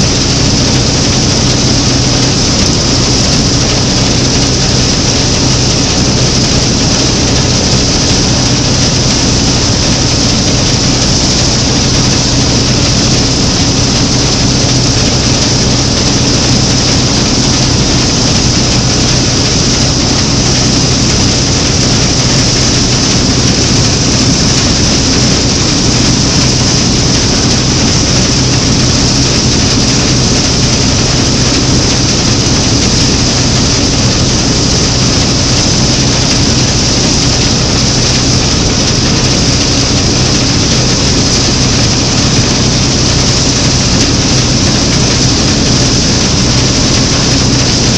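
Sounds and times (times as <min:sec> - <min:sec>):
combine harvester droning: 0:00.0 - 0:47.9.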